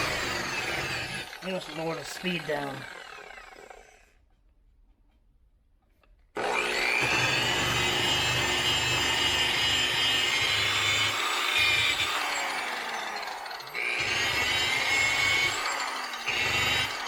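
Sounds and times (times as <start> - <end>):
orbital buffer running: 0.0 - 4.1, 6.4 - 17.0.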